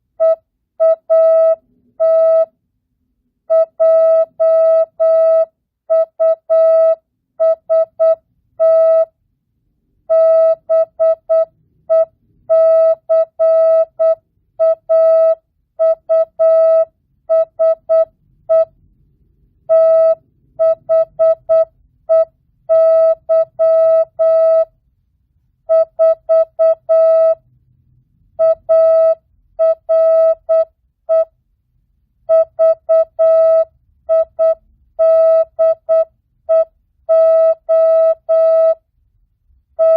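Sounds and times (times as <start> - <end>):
morse code beeps: 0.2 - 2.5, 3.5 - 9.1, 10.1 - 18.8, 19.7 - 24.7, 25.7 - 27.4, 28.4 - 31.3, 32.3 - 38.8.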